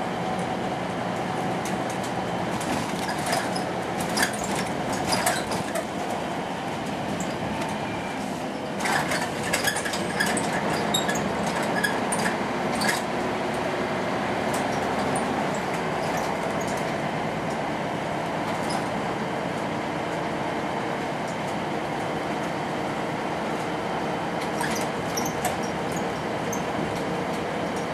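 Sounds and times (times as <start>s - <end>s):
bus diesel engine running: 0.0s - 27.9s
road noise: 0.0s - 27.9s.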